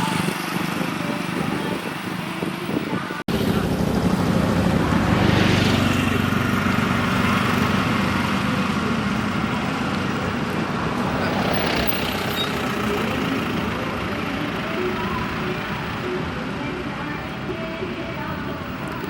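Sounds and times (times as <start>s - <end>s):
passing traffic: 0.0s - 19.0s
vehicle engine humming: 0.0s - 19.0s.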